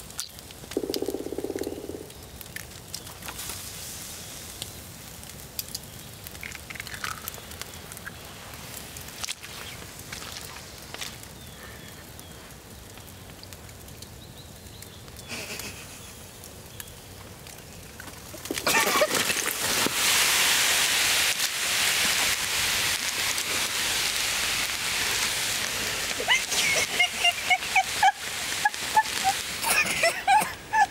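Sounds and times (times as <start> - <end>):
embers crackling faintly: 0.0 - 30.9
log fire crackling and hissing: 0.0 - 30.9.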